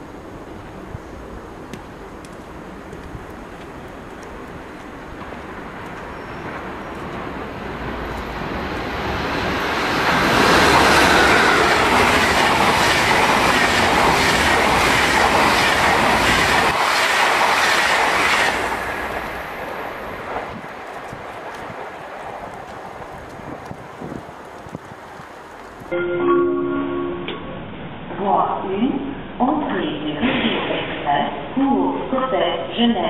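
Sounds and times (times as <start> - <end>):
train passing: 0.0 - 30.2.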